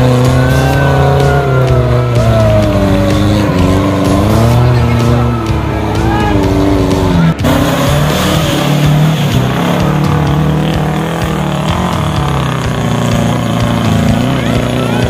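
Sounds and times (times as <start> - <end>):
engine revving in mud: 0.0 - 15.0.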